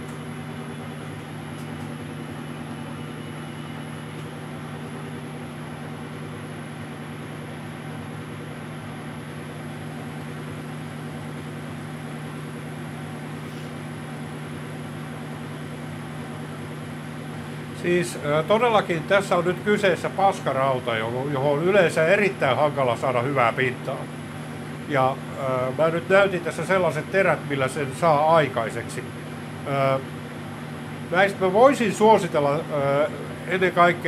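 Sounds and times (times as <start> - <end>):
lathe gear hum: 0.0 - 34.0.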